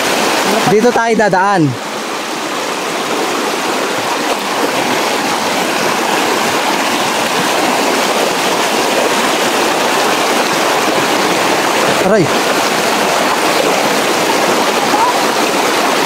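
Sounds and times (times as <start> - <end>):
fast river water rushing: 0.0 - 16.0.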